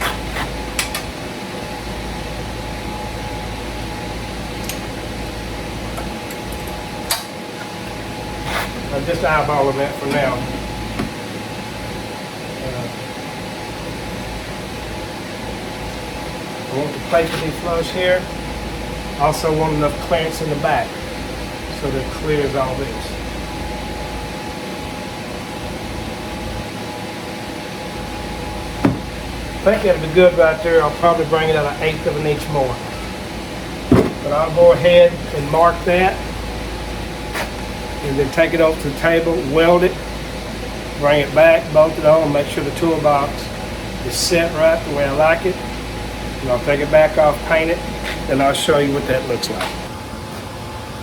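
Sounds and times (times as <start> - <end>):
faint constant whine: 0.0 - 51.0
machinery humming: 0.0 - 51.0.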